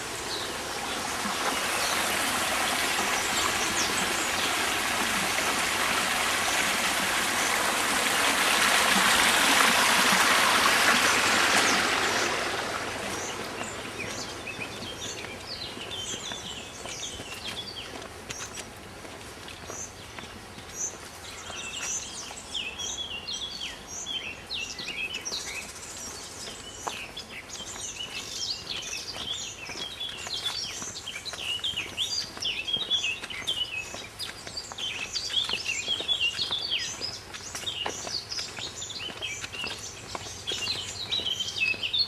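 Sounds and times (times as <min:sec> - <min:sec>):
small birds chirping and twittering: 0:00.0 - 0:42.0.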